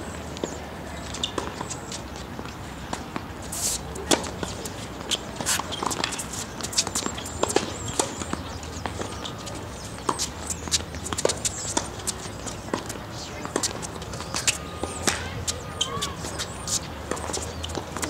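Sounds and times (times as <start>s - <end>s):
footsteps on court: 0.1s - 18.0s
tennis ball bouncing on court: 0.4s - 3.3s, 4.0s - 18.0s
racket hitting tennis ball: 2.9s - 18.0s.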